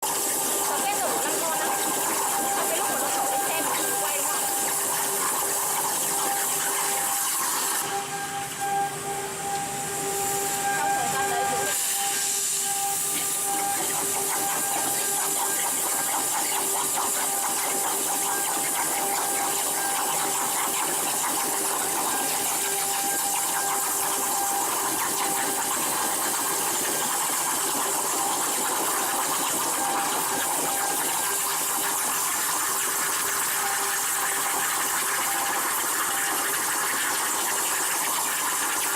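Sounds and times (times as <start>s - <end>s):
plasma torch hissing: 0.0s - 8.0s, 9.7s - 38.9s.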